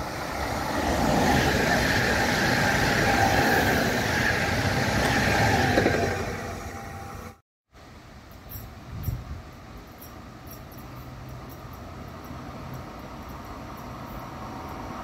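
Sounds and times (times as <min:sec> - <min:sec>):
train passing at speed: 0:00.0 - 0:07.4, 0:08.5 - 0:15.0.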